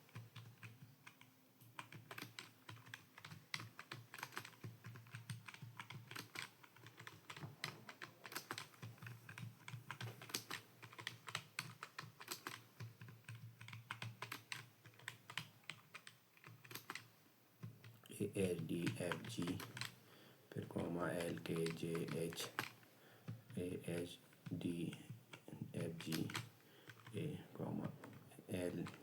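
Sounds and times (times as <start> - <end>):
typing on computer keyboard: 0.0 - 20.0, 20.8 - 29.0.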